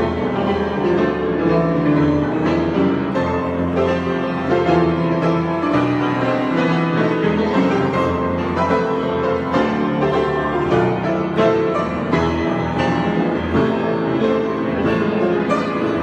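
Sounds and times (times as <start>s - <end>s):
solo piano improvising: 0.0s - 16.0s.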